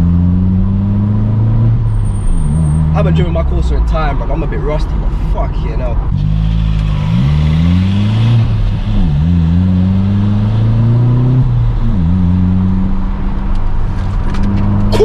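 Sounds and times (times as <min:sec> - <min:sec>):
car engine accelerating: 0:00.0 - 0:03.8, 0:06.0 - 0:15.0.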